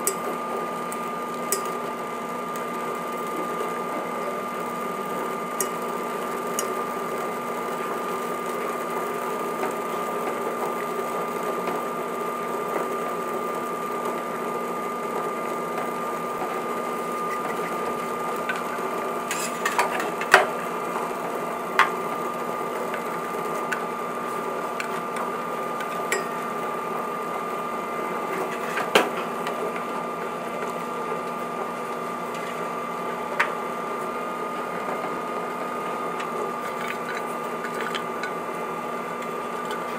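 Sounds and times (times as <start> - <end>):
induction cooktop hum and whine: 0.0 - 39.9.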